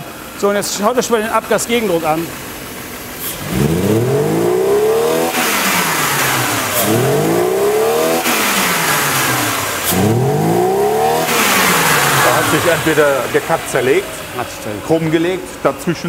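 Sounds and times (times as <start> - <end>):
car engine revving: 2.5 - 15.6.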